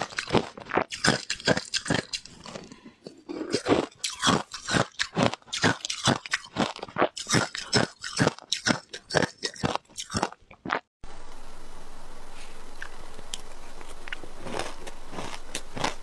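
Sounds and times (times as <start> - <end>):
ice being chewed: 0.0 - 10.9, 12.8 - 16.0.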